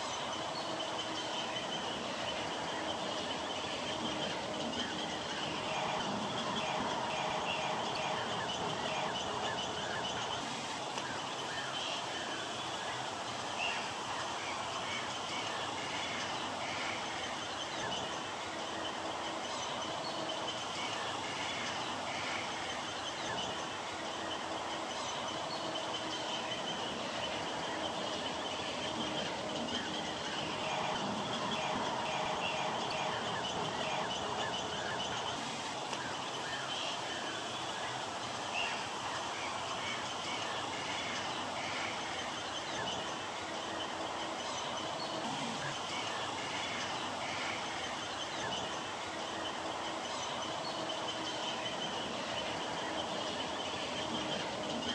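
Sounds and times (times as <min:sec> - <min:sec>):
constant high buzz: 0:00.0 - 0:54.9
steady hiss: 0:00.0 - 0:54.9.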